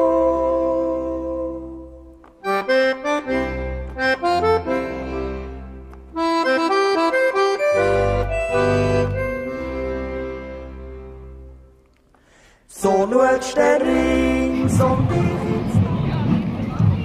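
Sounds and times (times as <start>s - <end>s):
accordion folk tune: 0.0s - 12.2s, 13.2s - 15.8s.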